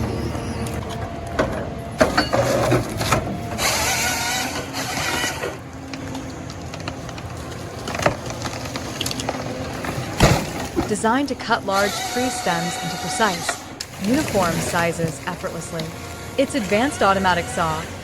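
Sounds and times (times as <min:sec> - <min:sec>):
forest harvester mechanical clatter: 0:00.0 - 0:18.0.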